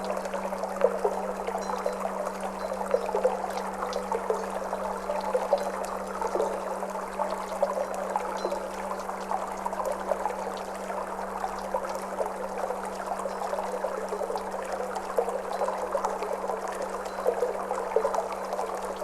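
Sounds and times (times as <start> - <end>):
water flowing and trickling: 0.0 - 19.0.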